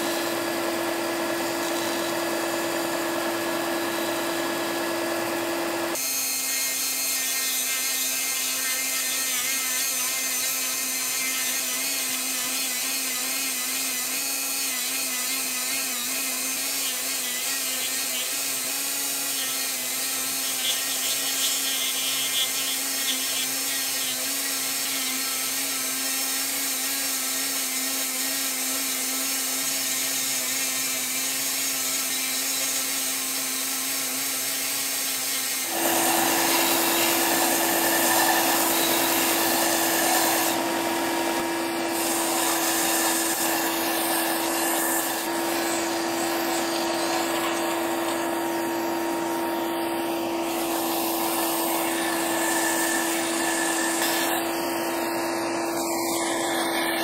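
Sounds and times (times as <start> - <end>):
rotary tool sanding wood: 0.0 - 57.0.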